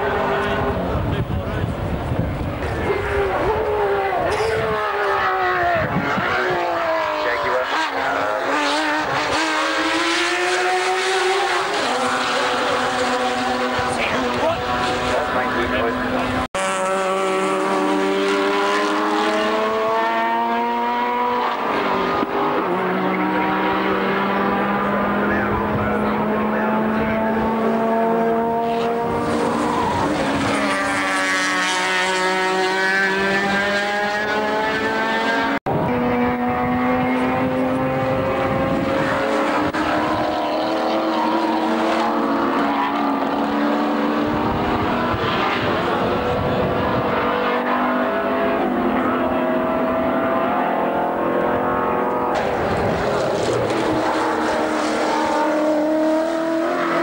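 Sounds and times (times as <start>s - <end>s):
racing car engines passing: 0.0s - 57.0s.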